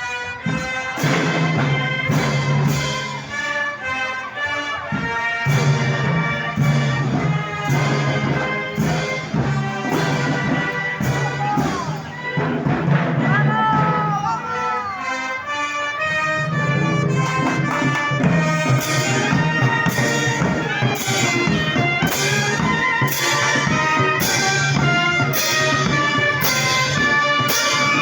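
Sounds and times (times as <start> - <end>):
brass band playing: 0.0 - 28.0.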